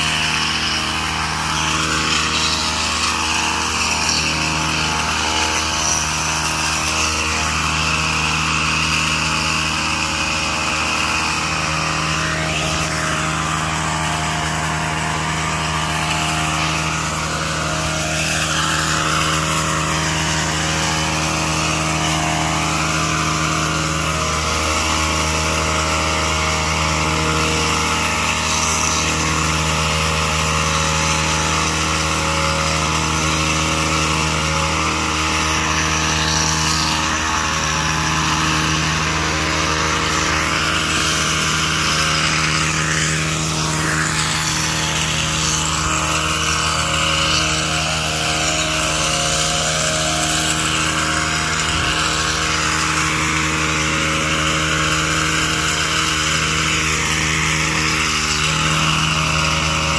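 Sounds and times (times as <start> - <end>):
hedge trimmer engine running: 0.0 - 59.9.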